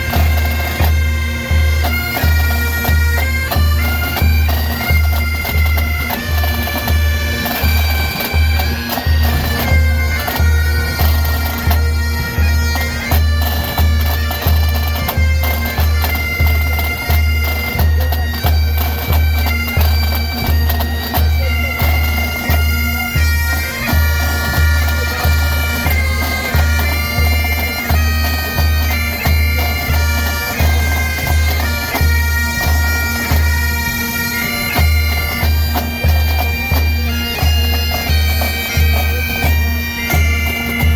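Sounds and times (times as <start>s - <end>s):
bagpipes playing a tune: 0.0s - 40.9s.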